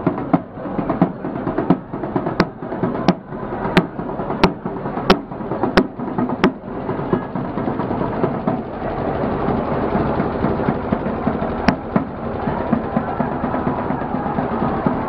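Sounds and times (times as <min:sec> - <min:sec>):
dense busy din: 0:00.0 - 0:15.0
procession drums beating: 0:00.0 - 0:15.0
sharp cracking drum strokes: 0:00.0 - 0:15.0.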